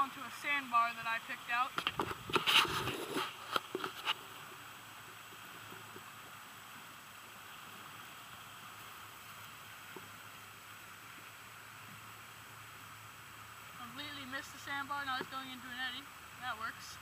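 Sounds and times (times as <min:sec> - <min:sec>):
river water rushing over riffle: 0:00.0 - 0:17.0.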